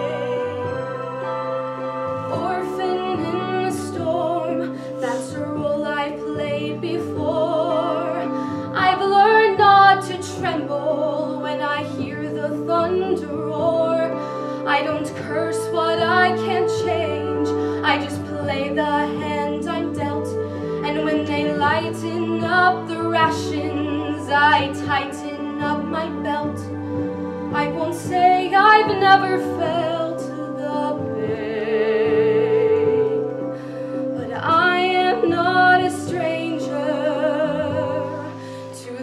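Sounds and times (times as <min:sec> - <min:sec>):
instrumental accompaniment: 0:00.0 - 0:39.0
woman singing a ballad: 0:00.0 - 0:39.0.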